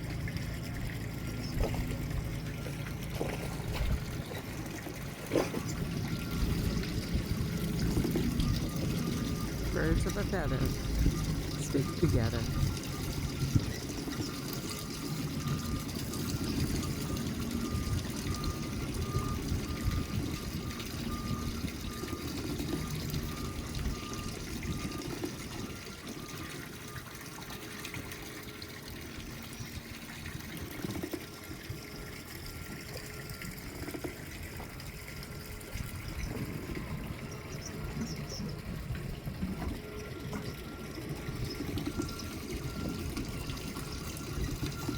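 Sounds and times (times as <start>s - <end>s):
water sloshing and splashing: 0.0s - 44.9s.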